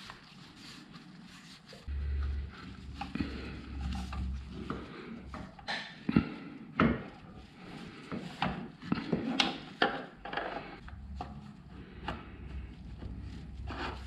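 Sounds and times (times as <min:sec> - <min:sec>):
gloves rubbing against parts: 0:00.0 - 0:14.0.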